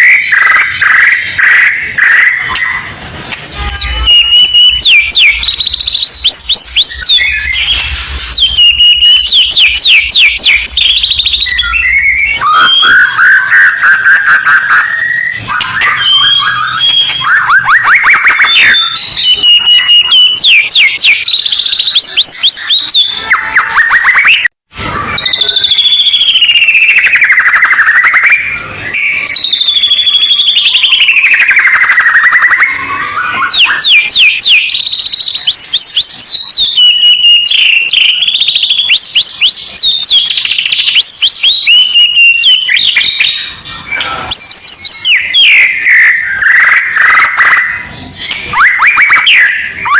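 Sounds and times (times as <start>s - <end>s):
recorded songbird song: 0.0s - 49.9s.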